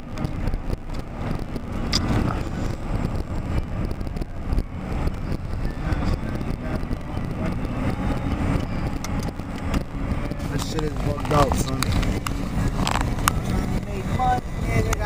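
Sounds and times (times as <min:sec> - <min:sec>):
engine and road noise rumble: 0:00.0 - 0:15.0.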